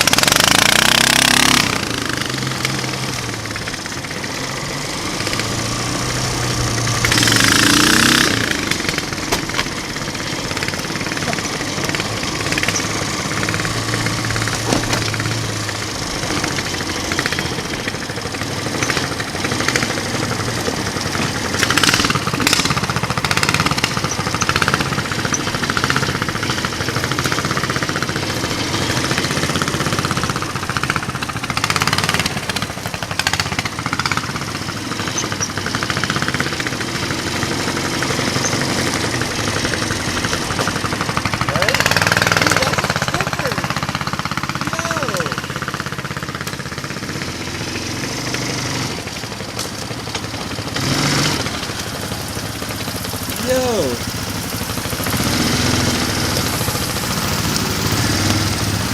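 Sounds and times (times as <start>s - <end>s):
small engine rumbling: 0.0s - 58.9s.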